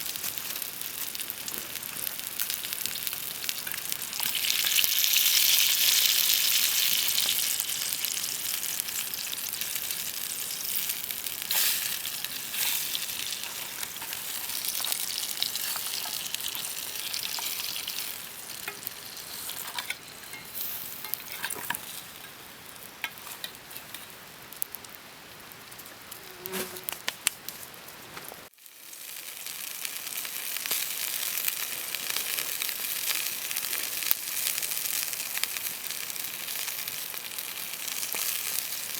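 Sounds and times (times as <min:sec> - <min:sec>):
food sizzling in a pan: 0:00.0 - 0:27.1, 0:28.4 - 0:38.9
pops and crackles of frying: 0:00.0 - 0:38.9.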